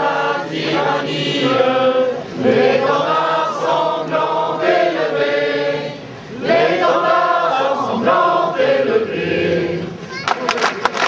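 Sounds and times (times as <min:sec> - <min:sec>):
crowd singing in unison: 0:00.0 - 0:10.1.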